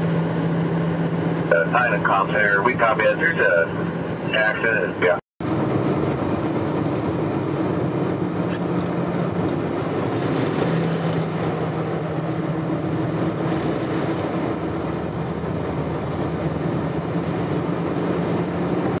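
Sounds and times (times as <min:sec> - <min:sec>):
low engine hum: 0:00.0 - 0:19.0
tyre and road rush: 0:00.0 - 0:19.0.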